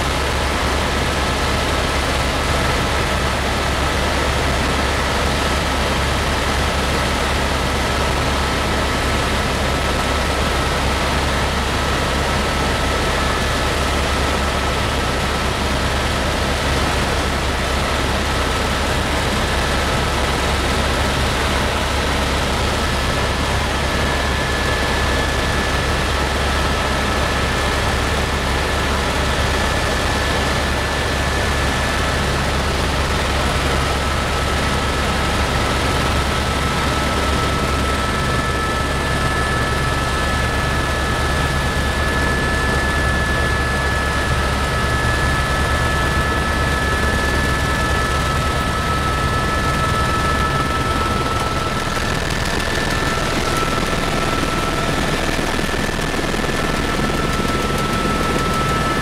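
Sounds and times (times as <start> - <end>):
helicopter rotor drone: 0.0 - 59.0
turbine engine high whine: 0.0 - 59.0.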